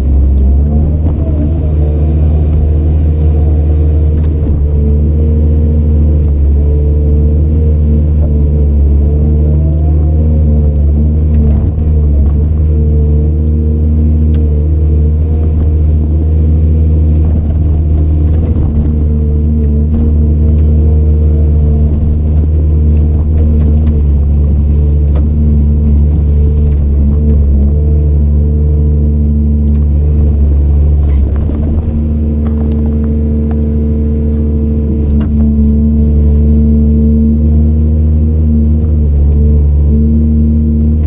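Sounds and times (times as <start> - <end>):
heavy diesel machinery droning: 0.0 - 41.0.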